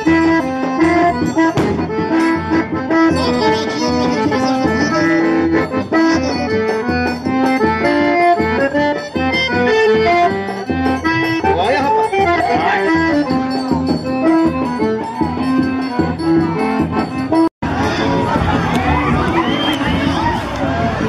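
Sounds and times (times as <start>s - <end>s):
accordion-led dance music: 0.0s - 21.0s.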